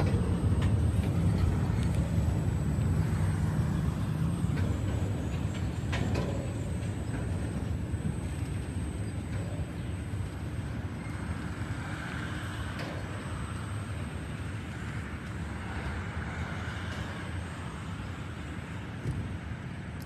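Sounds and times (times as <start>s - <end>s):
freight train rolling on rails: 0.0s - 20.0s.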